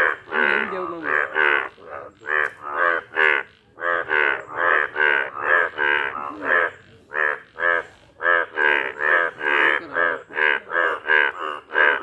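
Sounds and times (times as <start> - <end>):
bullfrog croaking: 0.0 - 12.0.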